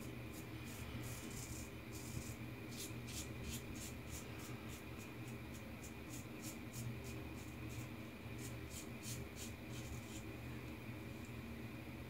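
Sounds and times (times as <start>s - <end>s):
razor scraping stubble: 0.0s - 10.2s
steady low hum: 0.0s - 12.0s.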